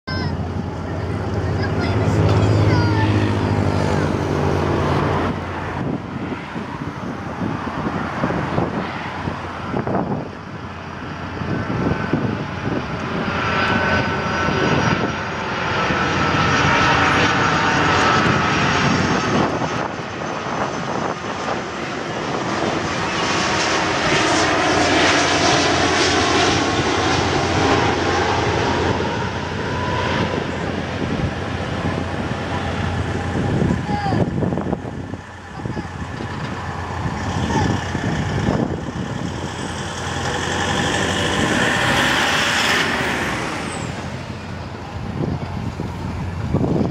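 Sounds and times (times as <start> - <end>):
high fan whine: 0.1 - 46.9
jet engine rumble: 0.1 - 46.9.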